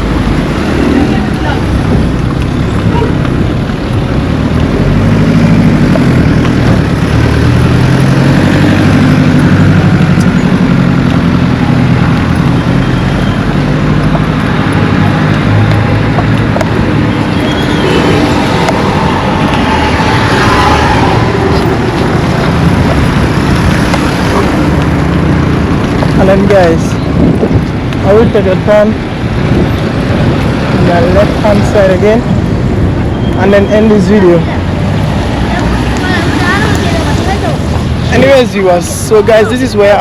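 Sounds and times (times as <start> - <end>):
passing vehicle engines: 0.0 - 40.0.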